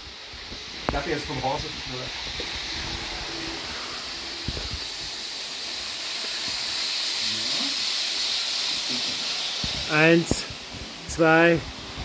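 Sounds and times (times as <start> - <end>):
model train wheels and motors whirring: 0.0 - 12.0.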